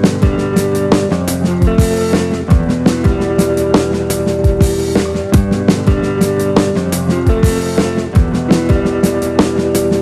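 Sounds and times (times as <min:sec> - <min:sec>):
music with a drum beat: 0:00.0 - 0:10.0.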